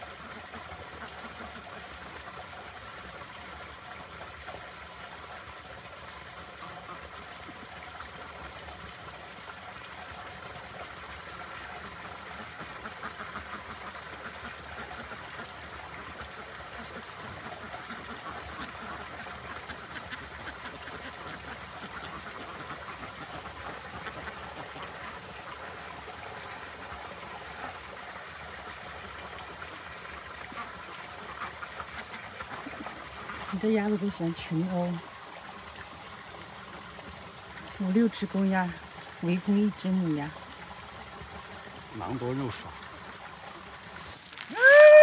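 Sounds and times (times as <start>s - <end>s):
water trickling: 0.0s - 45.0s.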